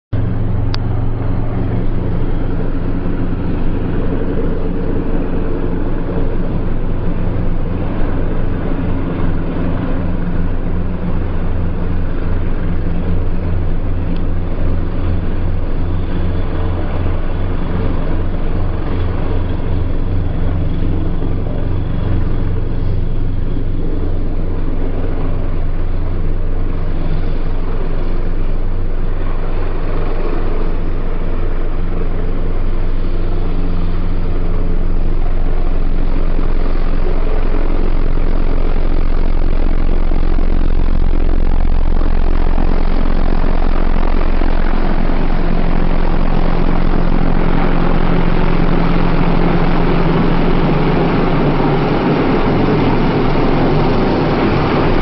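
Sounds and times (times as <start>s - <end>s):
helicopter rotor throb: 0.1s - 55.0s
turbine hiss: 0.2s - 55.0s.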